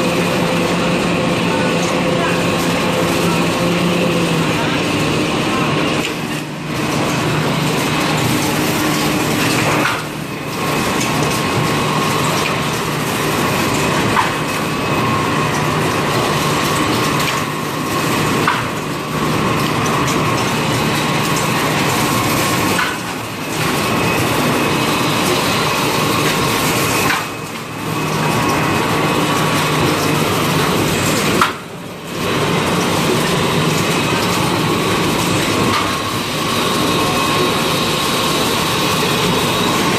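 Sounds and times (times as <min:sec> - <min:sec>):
constant machine hum: 0:00.0 - 0:39.9
packaging machinery din: 0:00.0 - 0:39.9.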